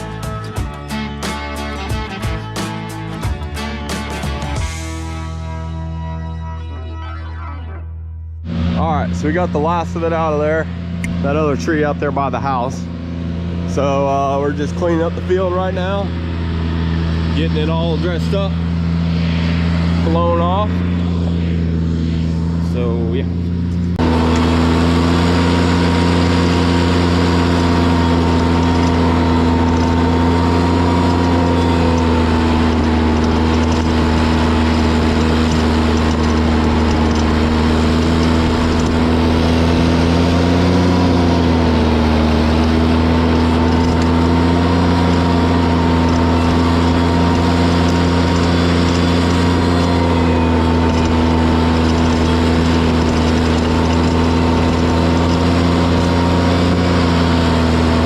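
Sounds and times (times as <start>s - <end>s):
heavy equipment engine running: 0.0s - 58.0s.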